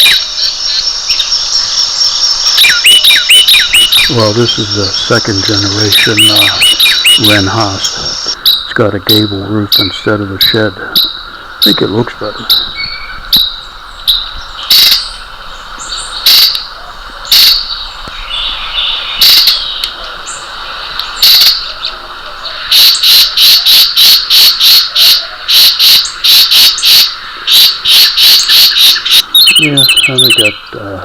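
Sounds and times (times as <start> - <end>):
bird chirping: 0.0 - 31.0
insects trilling: 0.0 - 31.0.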